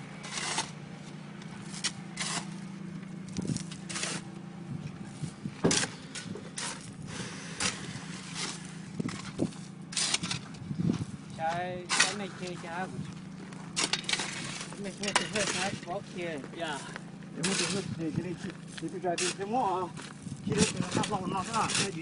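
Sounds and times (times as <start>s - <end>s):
gravel crunching: 0.0s - 22.0s
vehicle engine idling: 0.0s - 22.0s.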